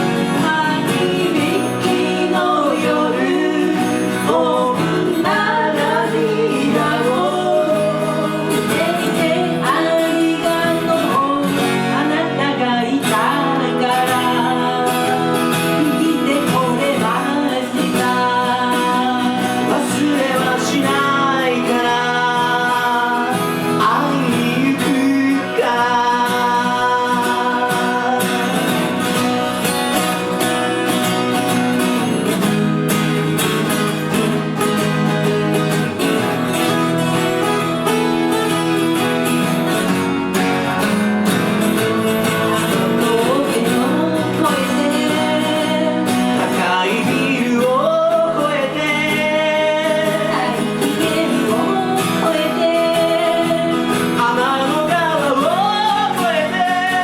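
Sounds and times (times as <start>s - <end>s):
ballad with guitar: 0.0s - 57.0s.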